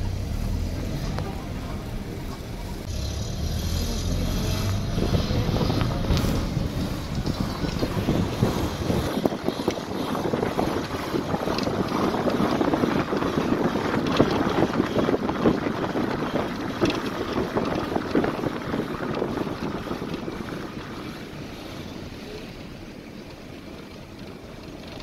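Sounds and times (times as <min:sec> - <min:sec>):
wind buffeting microphone: 0:04.2 - 0:25.0.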